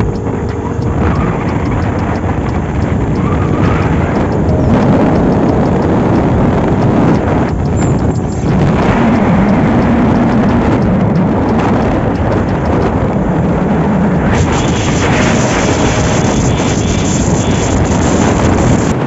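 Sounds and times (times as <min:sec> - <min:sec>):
loud low rumbling noise: 0:00.0 - 0:19.0.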